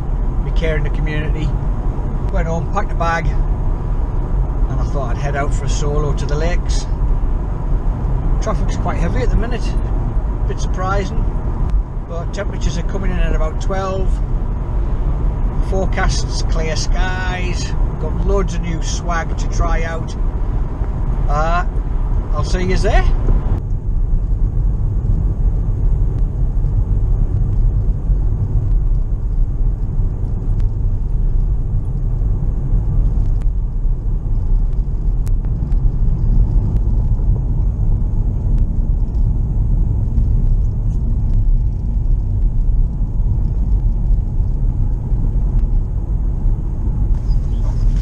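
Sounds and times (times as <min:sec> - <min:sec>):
car road and engine rumble: 0:00.0 - 0:48.0.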